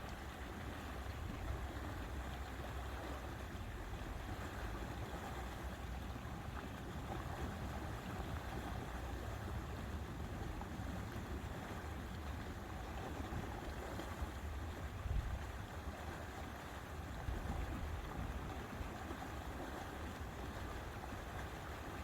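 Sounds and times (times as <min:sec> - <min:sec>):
faint water wash: 0:00.0 - 0:22.0
low rumble of wind: 0:00.0 - 0:22.0.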